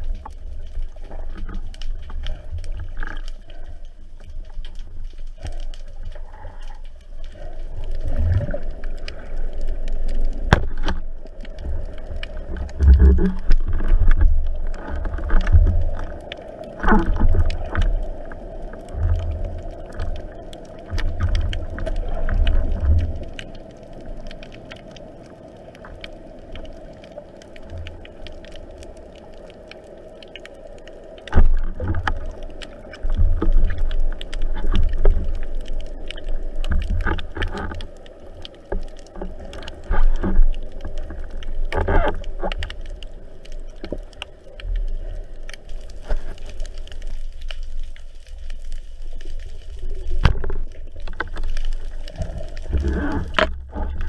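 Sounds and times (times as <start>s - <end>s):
underwater water rush: 0.0s - 54.0s.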